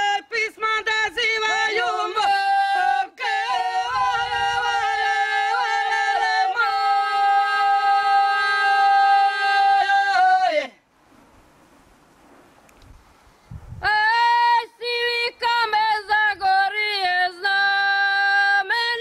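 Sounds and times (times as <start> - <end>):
women singing in close harmony: 0.0 - 10.7, 13.8 - 19.0.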